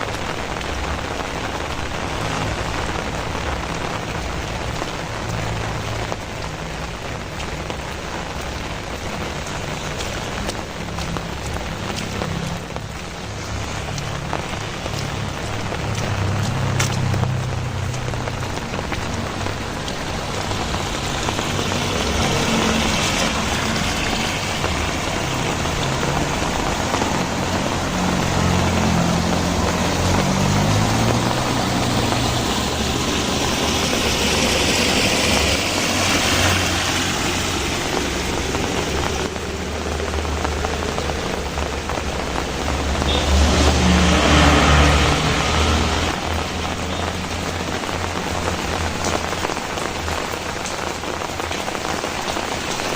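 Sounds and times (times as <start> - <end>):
engine hum: 0.0 - 52.9
steady rain: 0.0 - 52.9
vehicles passing on wet road: 0.0 - 52.9.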